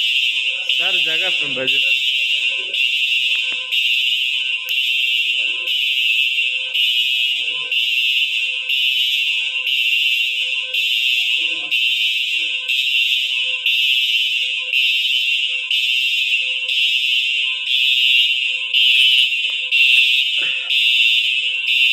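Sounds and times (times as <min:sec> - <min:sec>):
fire alarm high-pitched tone: 0:00.0 - 0:21.9.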